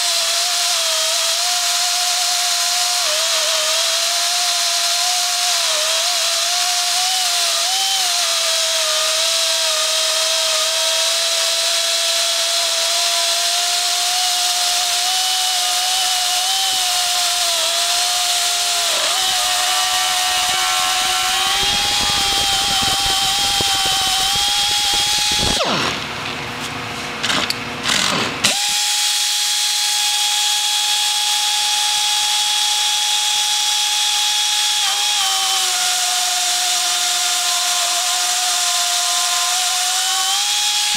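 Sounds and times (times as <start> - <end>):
metal cutting noise: 0.0 - 40.9
electric motor whine: 1.4 - 26.4, 27.2 - 40.9.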